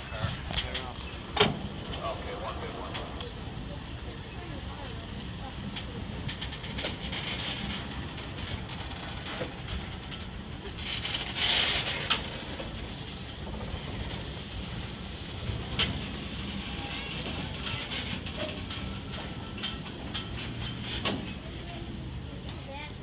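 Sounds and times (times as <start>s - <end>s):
freight train rumbling: 0.0s - 23.0s
wheels and couplings clanking: 0.0s - 23.0s.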